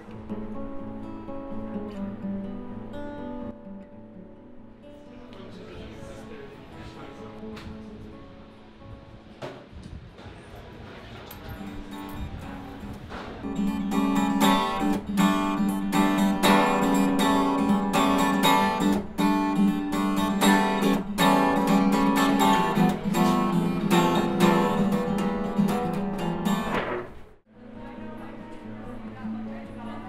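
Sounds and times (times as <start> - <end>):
acoustic guitar strumming chords: 0.0 - 9.4, 11.6 - 30.0.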